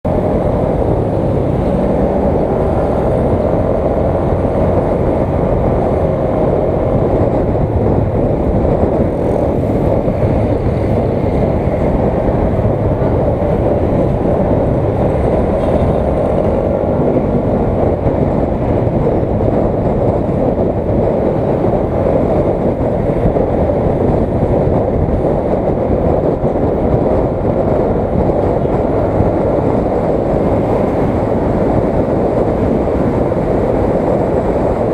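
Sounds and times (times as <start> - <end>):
motorcycle engine rumble: 0.0 - 34.9
road noise: 0.0 - 34.9
wind noise: 0.0 - 34.9.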